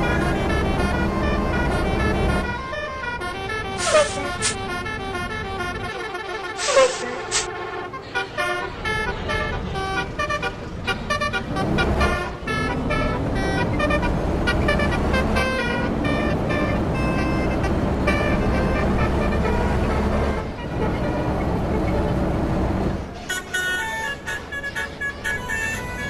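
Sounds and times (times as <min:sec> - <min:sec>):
bus horn playing a melody: 0:00.0 - 0:22.6, 0:23.2 - 0:26.0
bus engine rumble: 0:00.0 - 0:26.0.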